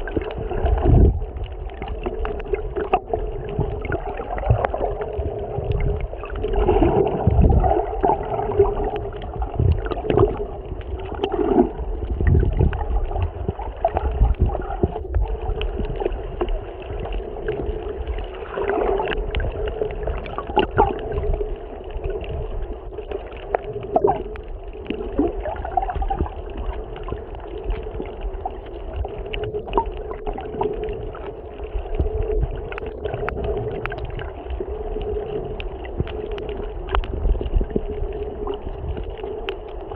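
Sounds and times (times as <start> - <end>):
muffled water gurgling: 0.0 - 39.9.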